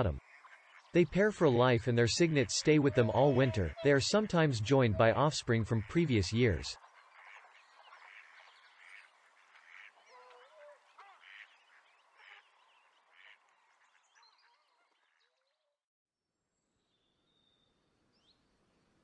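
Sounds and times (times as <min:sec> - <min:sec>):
faint swan calls: 0:00.0 - 0:15.2.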